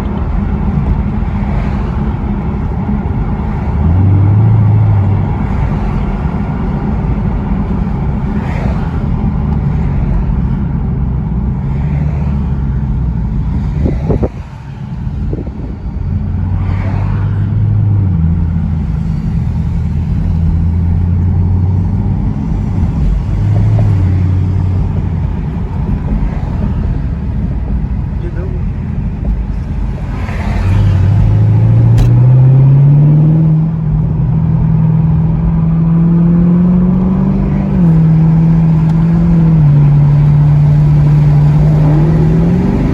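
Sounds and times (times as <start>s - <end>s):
car engine with deep exhaust: 0.0s - 42.9s.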